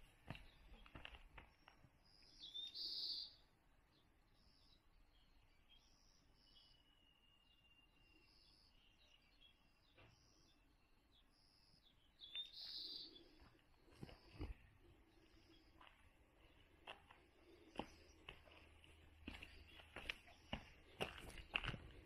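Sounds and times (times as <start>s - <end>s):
faint bird calls: 1.6s - 3.4s, 5.6s - 21.7s.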